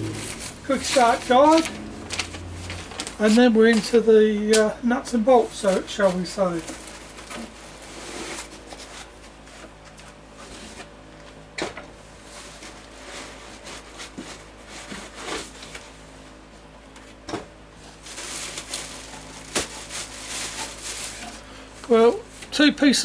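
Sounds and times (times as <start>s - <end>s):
cardboard and foam rustling: 0.0s - 4.2s, 5.1s - 10.9s, 12.2s - 16.0s, 17.8s - 22.5s.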